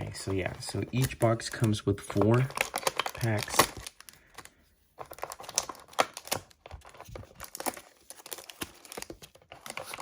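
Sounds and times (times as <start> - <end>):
foil packs crinkling: 0.0 - 10.0.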